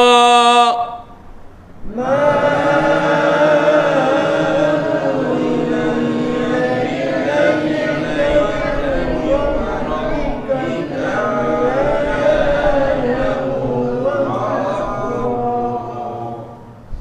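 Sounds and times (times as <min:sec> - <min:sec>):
person chanting recitation: 0:01.9 - 0:16.8.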